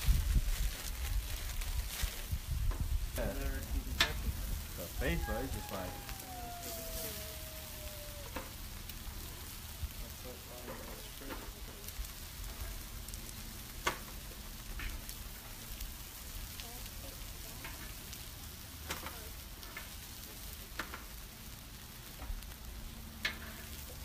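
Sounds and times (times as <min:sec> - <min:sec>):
meat sizzling on griddle: 0:01.7 - 0:24.0.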